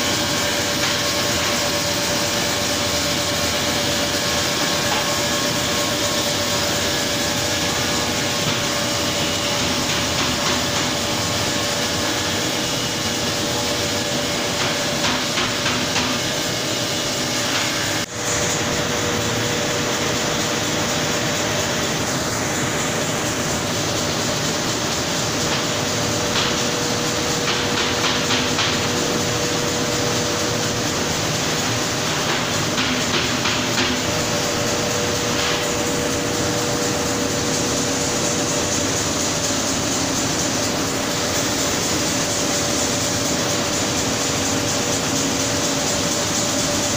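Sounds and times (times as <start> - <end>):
processing machinery running: 0.0 - 46.9.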